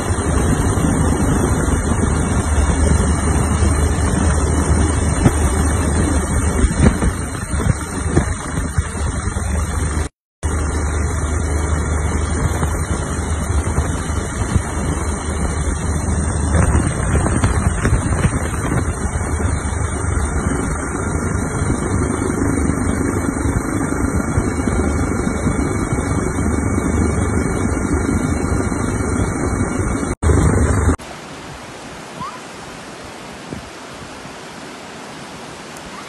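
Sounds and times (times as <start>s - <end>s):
aircraft engine drone: 0.0s - 31.0s
rushing wind: 0.0s - 36.0s.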